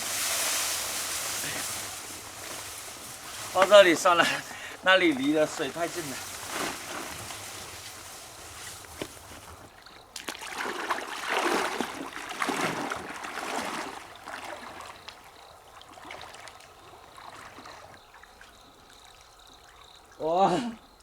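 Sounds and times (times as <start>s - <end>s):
water splashing and trickling: 0.0s - 20.4s.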